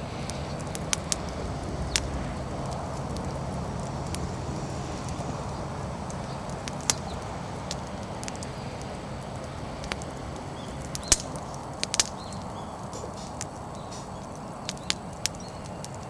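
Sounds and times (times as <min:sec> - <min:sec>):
bonfire rushing: 0:00.0 - 0:16.0
firewood crackles and pops: 0:00.0 - 0:16.0.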